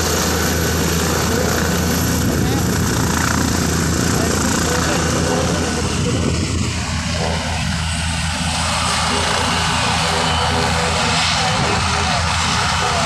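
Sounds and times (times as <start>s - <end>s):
helicopter engine running: 0.0s - 13.0s.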